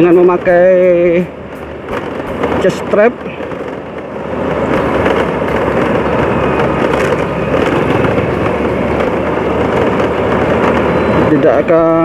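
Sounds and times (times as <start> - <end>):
motorcycle engine running: 0.0 - 12.0
road noise: 0.0 - 12.0
wind rushing: 1.2 - 11.4.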